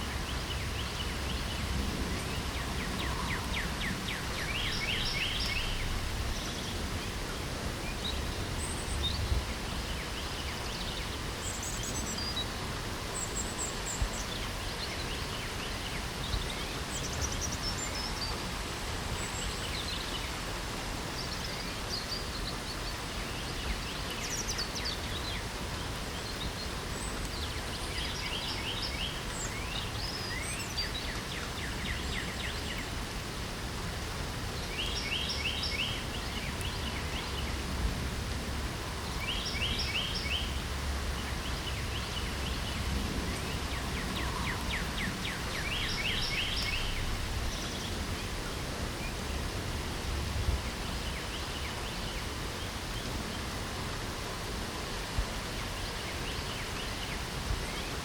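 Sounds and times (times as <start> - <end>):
light rain hiss: 0.0 - 58.0
songbirds singing: 0.0 - 58.0.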